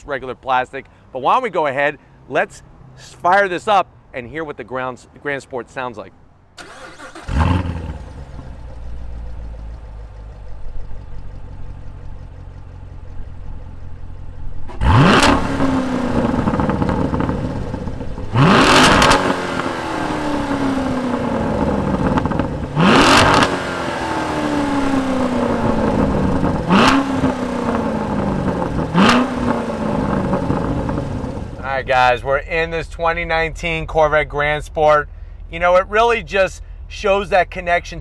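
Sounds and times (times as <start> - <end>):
car engine idling and revving: 6.6 - 38.0.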